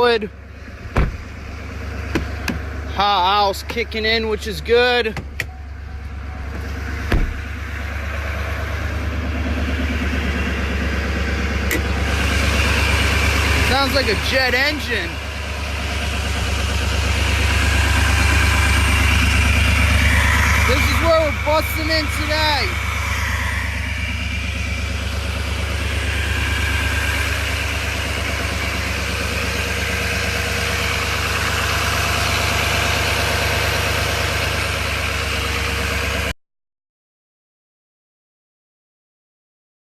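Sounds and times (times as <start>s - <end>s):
diesel truck engine idling: 0.0s - 36.4s.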